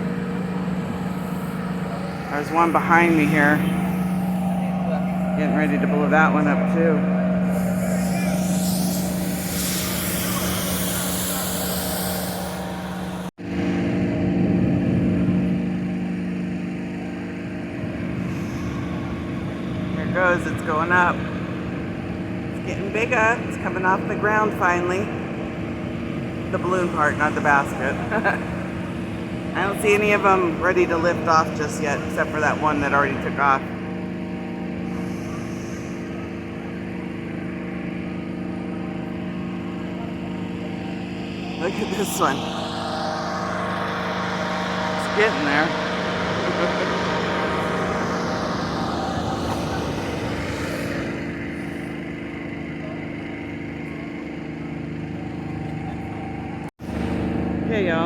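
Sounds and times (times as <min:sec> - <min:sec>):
inflator fans droning: 0:00.0 - 0:58.0.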